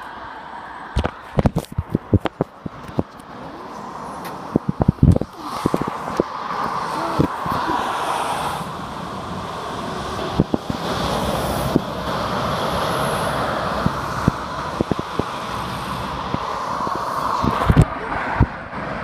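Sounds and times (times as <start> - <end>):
traffic passing: 0.0 - 19.0.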